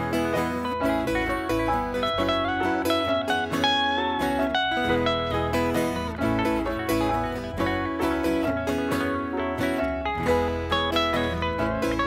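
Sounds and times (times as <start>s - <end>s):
bass line: 0.0s - 12.0s
guitars plucking and strumming: 0.0s - 12.0s.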